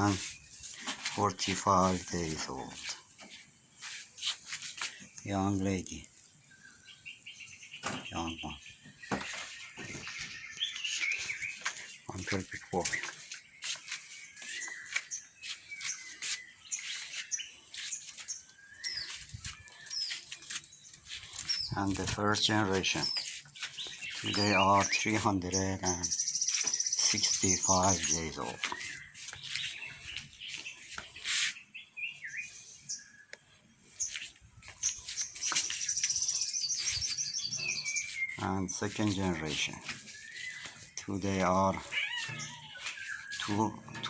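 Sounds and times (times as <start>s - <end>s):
birds chirping: 0.0s - 44.0s
high rapid bird trill: 6.6s - 33.1s, 34.0s - 44.0s.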